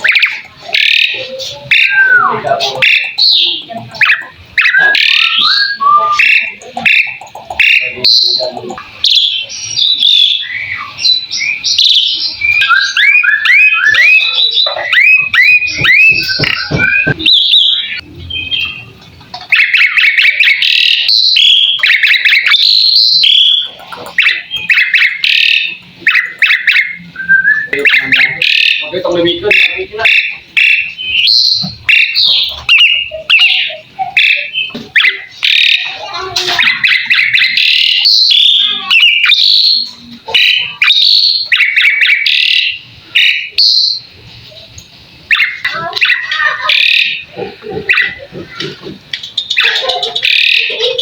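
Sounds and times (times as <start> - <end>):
starling singing: 0.0 - 51.0.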